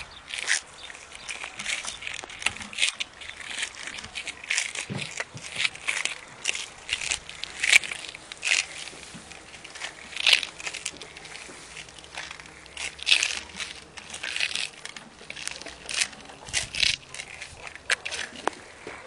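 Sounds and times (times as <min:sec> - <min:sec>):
paint roller swishing on foam: 0:00.3 - 0:19.0.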